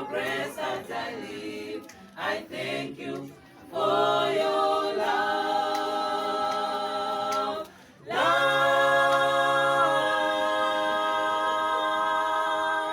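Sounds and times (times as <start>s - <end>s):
a cappella group singing: 0.0s - 12.9s.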